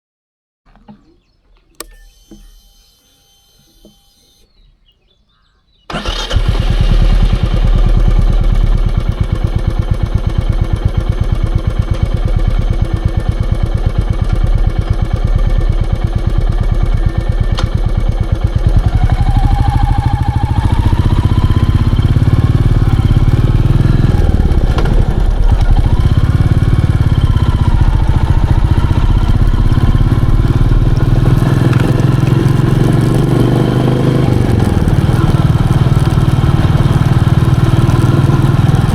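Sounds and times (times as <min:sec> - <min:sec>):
motorcycle engine running: 0:05.9 - 0:38.9.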